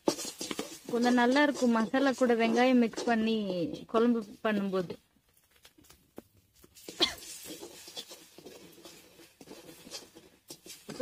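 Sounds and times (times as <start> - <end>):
spatula scraping pan: 0.0 - 5.0, 6.5 - 11.0.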